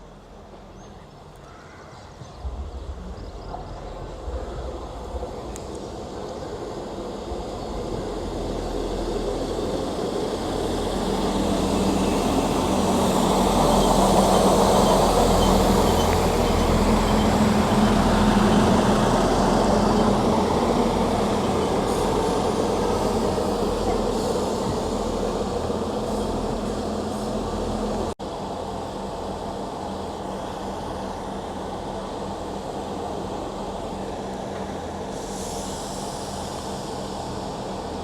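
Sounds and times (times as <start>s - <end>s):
train engine hum: 0.0s - 38.0s
train wheels rumbling: 0.0s - 38.0s.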